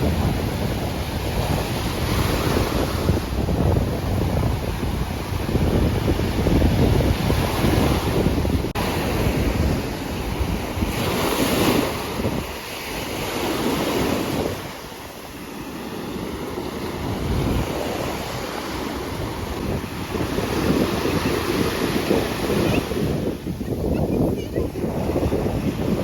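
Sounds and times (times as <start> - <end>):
sea waves breaking: 0.0 - 26.0
wind buffeting microphone: 0.0 - 26.0.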